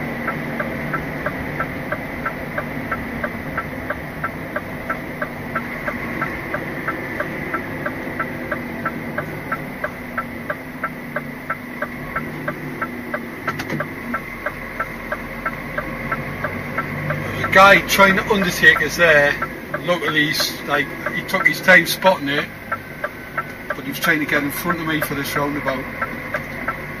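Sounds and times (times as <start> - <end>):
lorry engine drone: 0.0 - 27.0
turn indicator ticking: 0.0 - 27.0.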